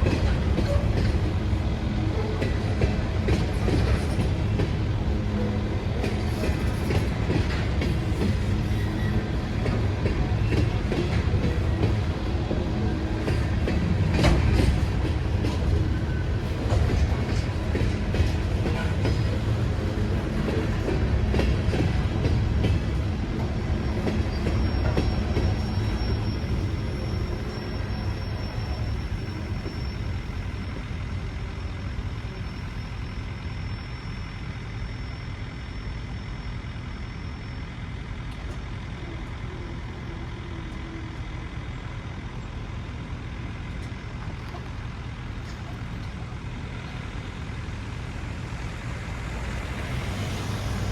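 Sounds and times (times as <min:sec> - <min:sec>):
train rumbling past: 0:00.0 - 0:50.9.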